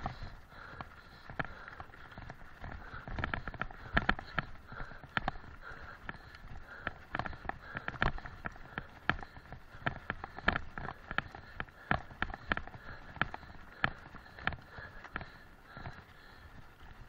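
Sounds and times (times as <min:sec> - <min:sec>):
rhythmic knocks and rattles: 0:00.0 - 0:17.0.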